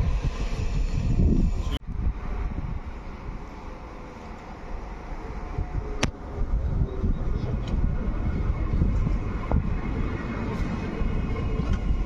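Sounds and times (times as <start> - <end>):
wind buffeting microphone: 0.0 - 4.0, 4.7 - 12.0
electric train rumble and whine: 0.0 - 12.0.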